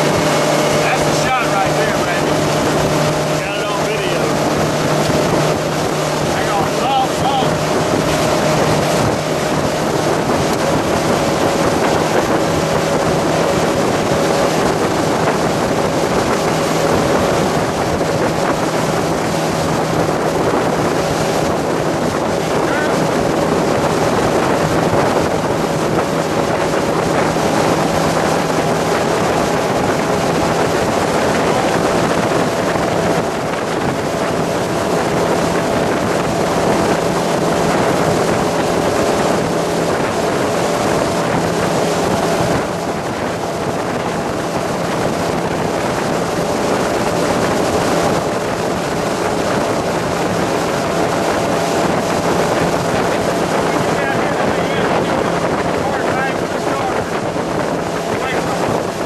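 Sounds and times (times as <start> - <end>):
boat engine running: 0.0 - 59.0
wind buffeting microphone: 0.0 - 59.0.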